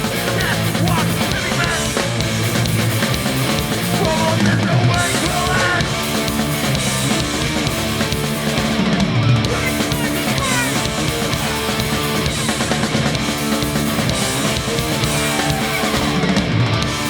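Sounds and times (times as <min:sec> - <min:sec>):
punk band playing live: 0:00.0 - 0:17.0.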